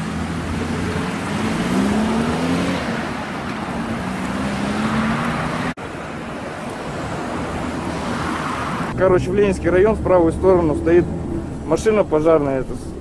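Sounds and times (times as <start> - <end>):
street noise hiss: 0.0 - 13.0.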